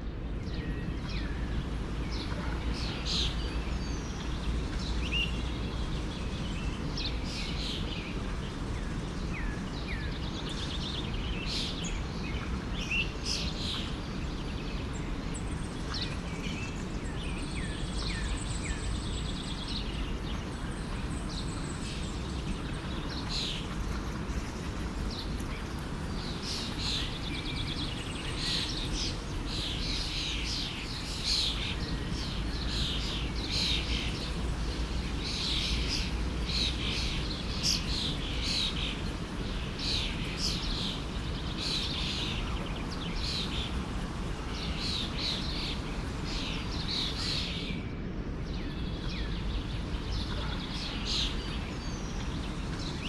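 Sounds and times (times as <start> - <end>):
songbirds chirping and trilling: 0.0 - 53.0
stream flowing: 0.9 - 16.3, 17.2 - 47.6, 48.5 - 53.0.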